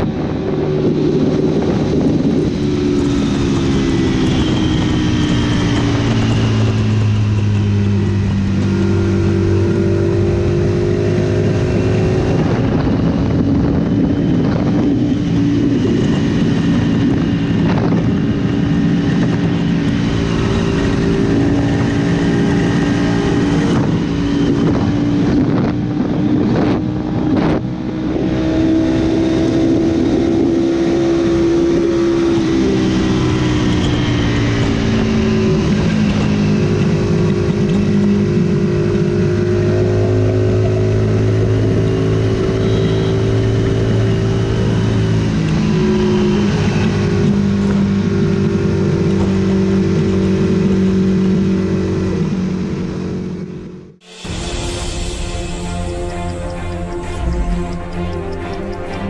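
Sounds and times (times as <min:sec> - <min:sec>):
wind rush: 0:00.0 - 0:53.3, 0:53.9 - 0:59.0
motorcycle engine drone: 0:00.0 - 0:59.0.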